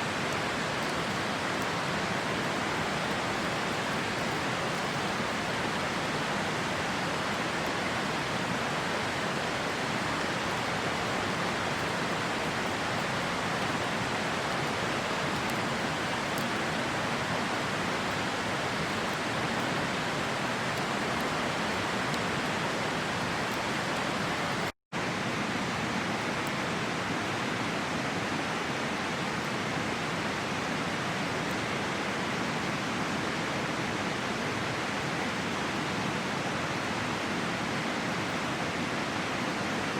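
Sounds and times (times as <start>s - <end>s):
campfire crackles: 0.0s - 39.9s
river rushing: 0.0s - 39.9s.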